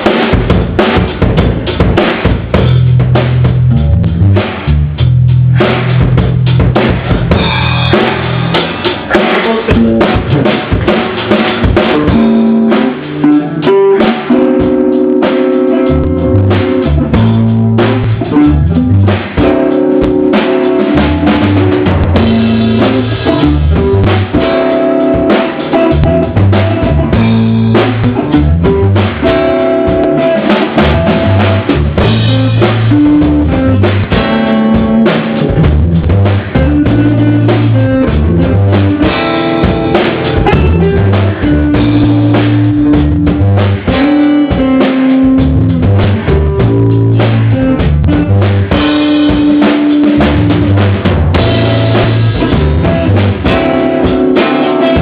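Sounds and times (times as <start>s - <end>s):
bass notes: 0.0s - 55.0s
drum kit beat: 0.0s - 55.0s
guitar: 0.0s - 55.0s.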